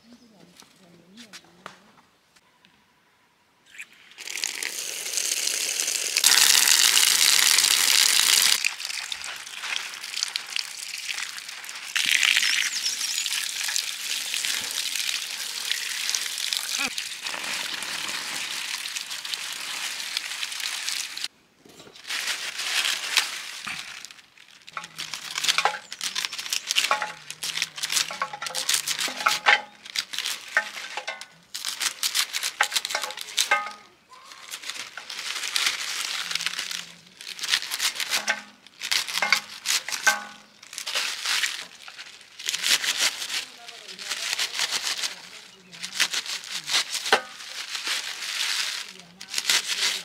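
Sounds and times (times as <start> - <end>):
water running onto leafy greens: 4.1 - 21.3, 22.1 - 50.0.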